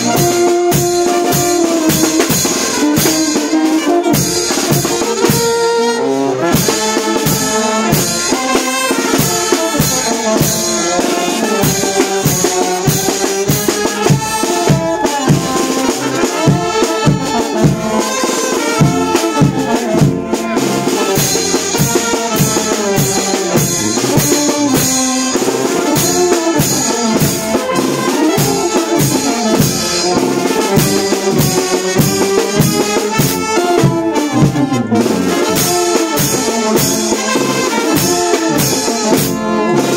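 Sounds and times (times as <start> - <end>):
brass band playing: 0.0 - 39.9
drum kit steady beat: 0.0 - 39.9.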